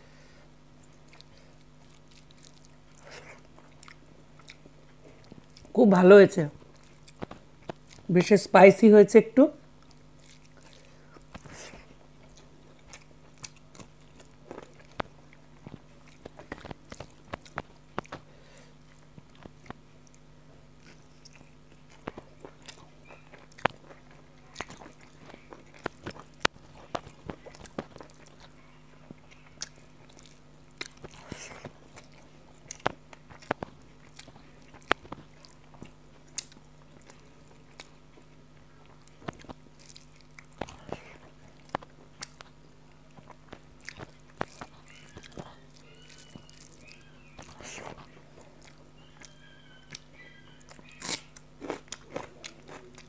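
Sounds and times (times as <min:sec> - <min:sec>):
faint low hum: 0:00.0 - 0:53.0
person chewing food: 0:00.2 - 0:05.7, 0:06.6 - 0:08.1, 0:09.7 - 0:53.0.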